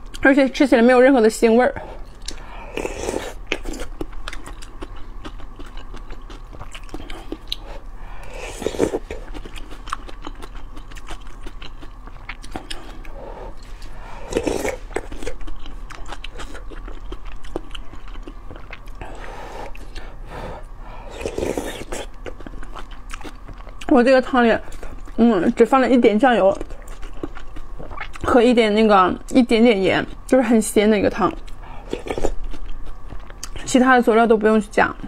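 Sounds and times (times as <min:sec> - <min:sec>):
wet chewing: 0:02.0 - 0:25.6, 0:26.3 - 0:28.4, 0:31.2 - 0:33.7.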